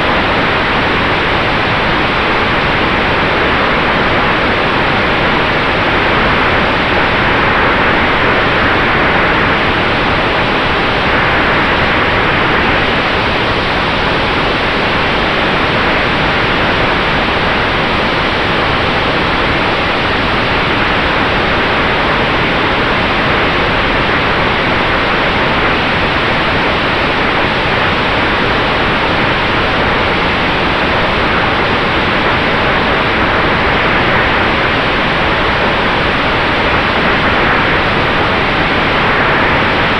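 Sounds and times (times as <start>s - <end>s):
faint steady whine: 0.0s - 39.9s
airplane airflow and propeller noise: 5.9s - 39.9s.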